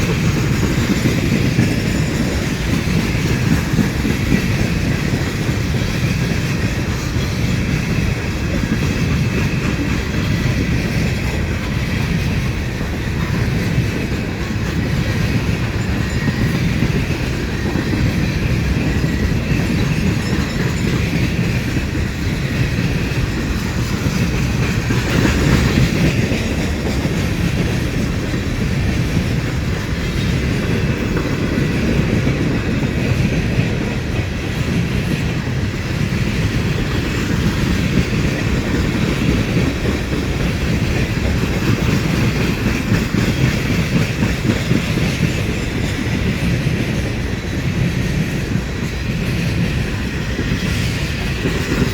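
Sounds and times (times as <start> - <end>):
train wheels clattering on rails: 0.0 - 51.9.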